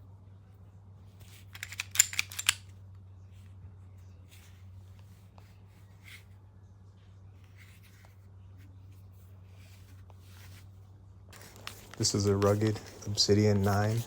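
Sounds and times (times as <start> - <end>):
steady low hum: 0.0 - 14.0
faint handling rubs and clicks: 1.1 - 6.4, 7.3 - 14.0.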